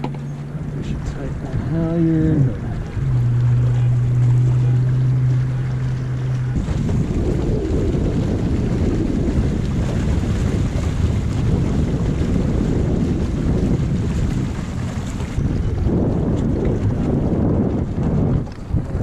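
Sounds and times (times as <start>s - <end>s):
steady low hum: 0.0s - 19.0s
water washing along hull: 0.0s - 19.0s
wind buffeting microphone: 0.0s - 19.0s.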